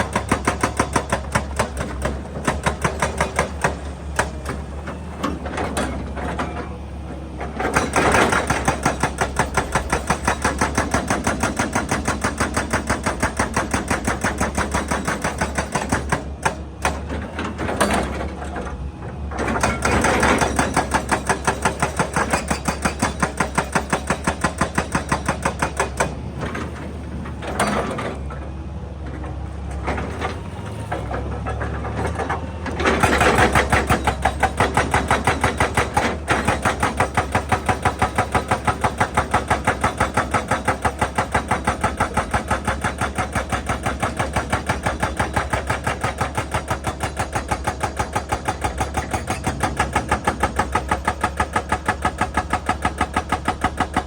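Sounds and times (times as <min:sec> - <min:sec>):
hydraulic breaker hammering rock: 0:00.0 - 0:06.7, 0:07.4 - 0:18.7, 0:19.3 - 0:28.3, 0:30.9 - 0:54.0
excavator diesel engine running: 0:00.0 - 0:54.0.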